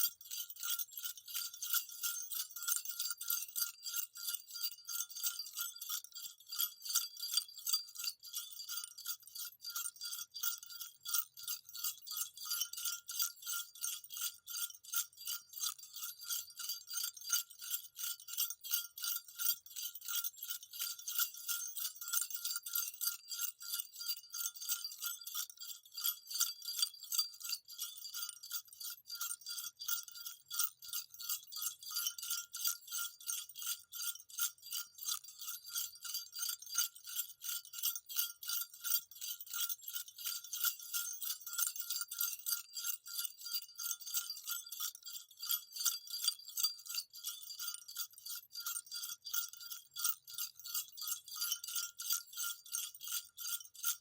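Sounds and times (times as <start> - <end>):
jingle bells shaking: 0.0 - 54.0.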